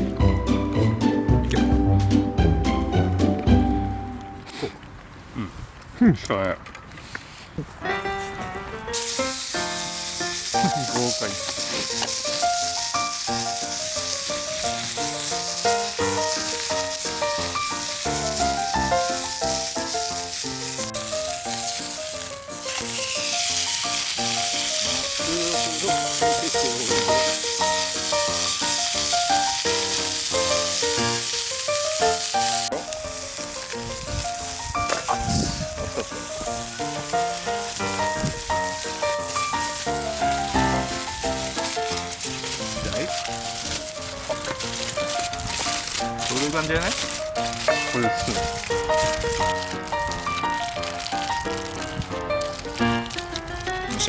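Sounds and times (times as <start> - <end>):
background music: 0.0 - 4.6, 7.8 - 54.0
meat sizzling in a frying pan: 8.8 - 54.0.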